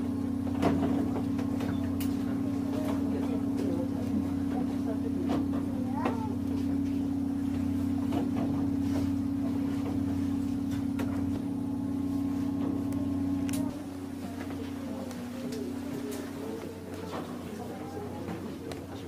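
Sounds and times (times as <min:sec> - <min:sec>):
vehicle machinery drone: 0:00.0 - 0:19.0.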